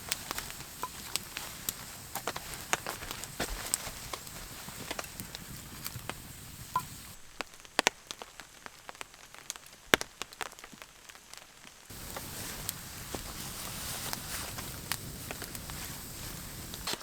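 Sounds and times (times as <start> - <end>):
light rain hiss: 0.0 - 17.0.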